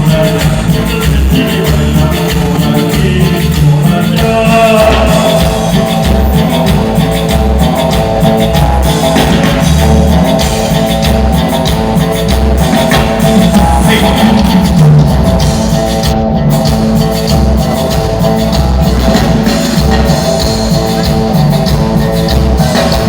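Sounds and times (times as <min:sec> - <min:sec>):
pulsing bass line: 0:00.0 - 0:23.0
steady drum beat: 0:00.0 - 0:23.0
sustained keyboard or guitar notes: 0:00.0 - 0:23.0.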